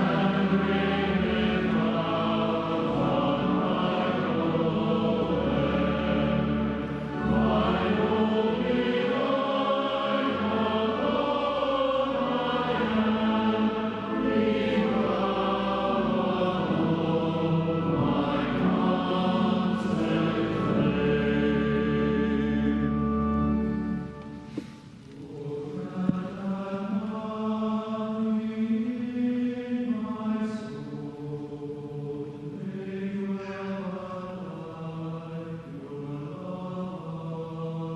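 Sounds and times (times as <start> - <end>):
choir singing a hymn: 0.0 - 37.9.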